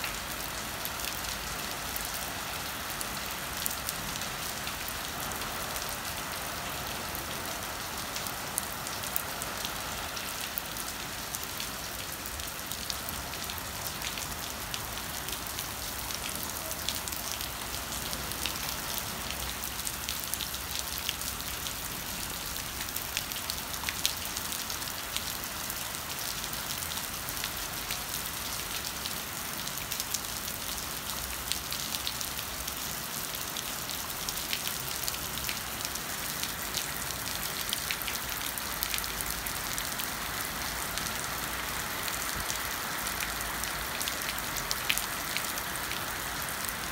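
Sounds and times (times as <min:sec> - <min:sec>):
rain on wet paving stones: 0:00.0 - 0:46.9.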